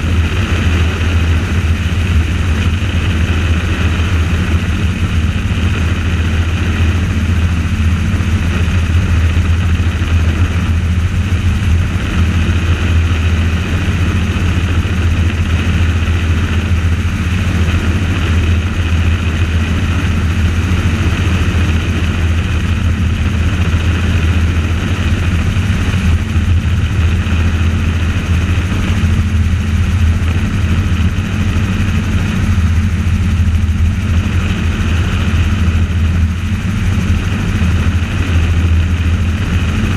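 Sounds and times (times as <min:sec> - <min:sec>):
helicopter rotor and engine drone: 0:00.0 - 0:39.9
high whine: 0:00.0 - 0:39.9.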